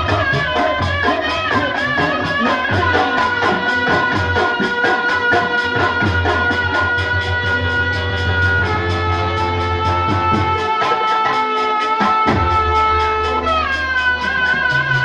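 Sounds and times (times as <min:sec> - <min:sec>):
bass line: 0:00.0 - 0:04.7, 0:05.3 - 0:10.8, 0:12.3 - 0:15.0
held melody notes: 0:00.0 - 0:15.0.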